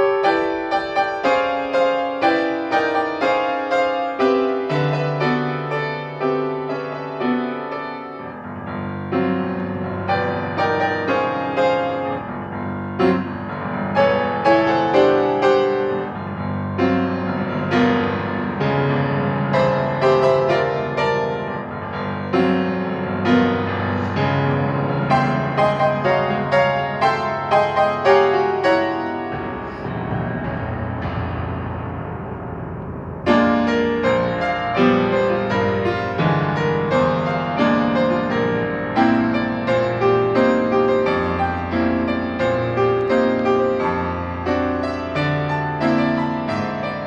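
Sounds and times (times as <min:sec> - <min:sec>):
solo piano piece: 0:00.0 - 0:47.0.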